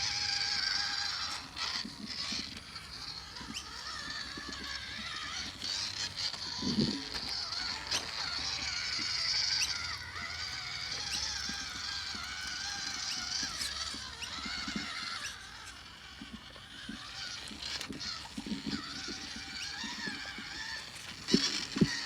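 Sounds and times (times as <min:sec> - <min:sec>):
toy truck motor whining: 0:00.0 - 0:22.0.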